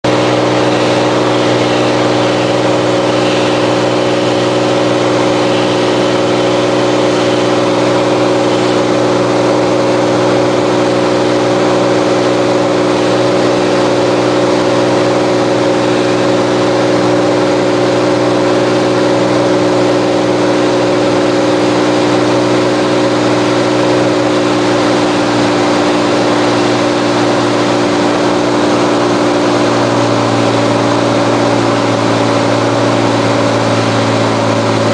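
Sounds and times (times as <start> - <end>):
aircraft engine droning: 0.0 - 34.9.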